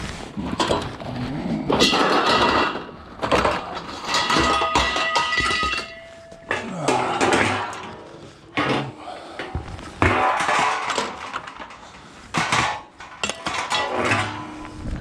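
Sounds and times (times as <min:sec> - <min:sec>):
scrap metal clanking and banging: 0:00.2 - 0:15.0.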